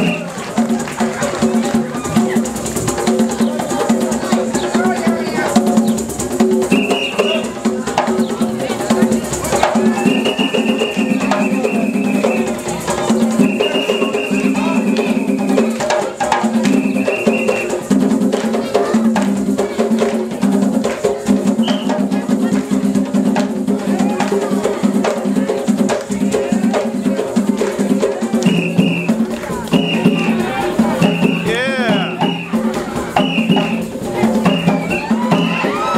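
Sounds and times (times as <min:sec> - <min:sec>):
hand drums playing fast rhythm: 0:00.0 - 0:35.9.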